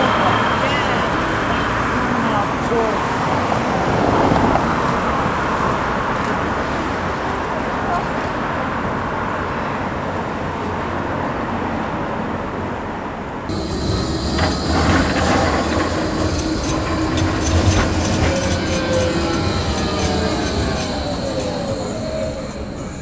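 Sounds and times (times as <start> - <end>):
tram wheels clattering: 0.0 - 9.3, 13.4 - 23.0
wheels whining and squealing: 0.0 - 10.0, 13.4 - 23.0
tram rumbling: 0.0 - 23.0.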